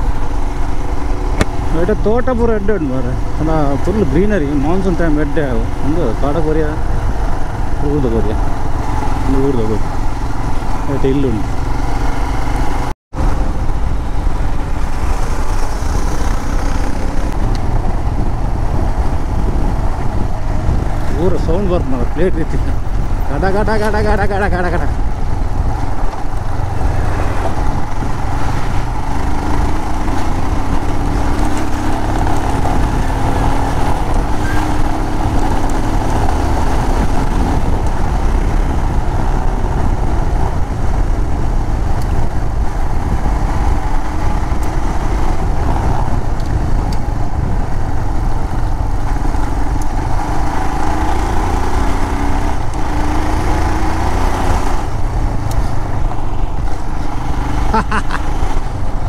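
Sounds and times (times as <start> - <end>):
motorcycle engine running: 0.0 - 59.0
wind rumble on microphone: 0.0 - 59.0.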